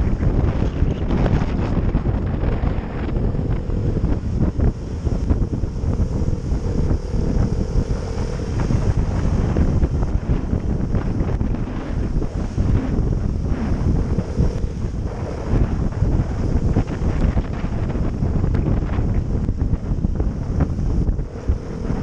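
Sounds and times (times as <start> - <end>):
faint steady hum: 0.0 - 22.0
wind buffeting microphone: 0.0 - 22.0.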